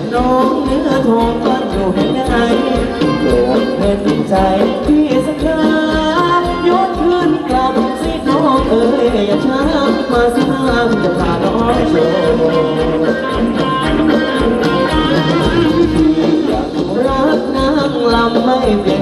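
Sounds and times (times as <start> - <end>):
person singing a melody: 0.0 - 13.9, 14.8 - 19.0
jingling percussion: 0.0 - 19.0
steady drum beat: 0.0 - 19.0.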